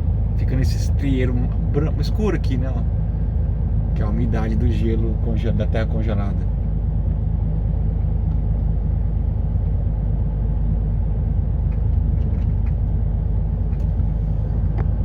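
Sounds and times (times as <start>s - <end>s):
diesel truck engine running: 0.0s - 15.0s
road rumble: 0.0s - 15.0s.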